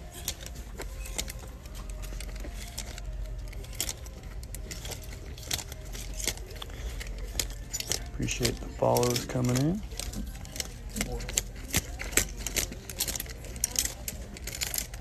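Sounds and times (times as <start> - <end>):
wire hangers scraping on metal rack: 0.0 - 15.0.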